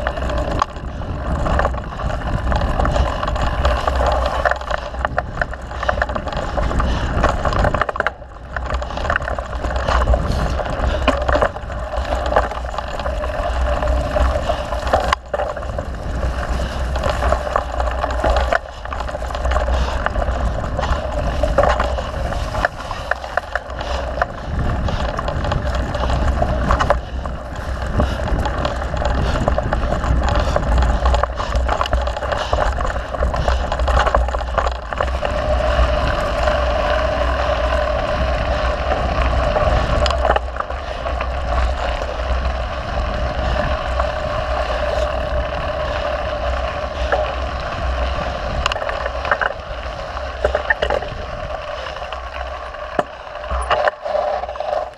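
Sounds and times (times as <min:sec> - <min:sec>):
bike tyres rattling: 0:00.0 - 0:54.9
wind rumble on microphone: 0:00.0 - 0:54.9.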